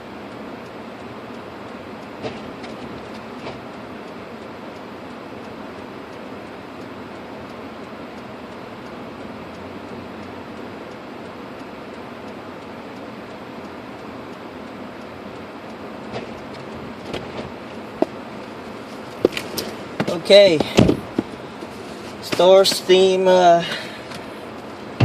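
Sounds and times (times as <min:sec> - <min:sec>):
car cabin road and engine noise: 0:00.0 - 0:25.0.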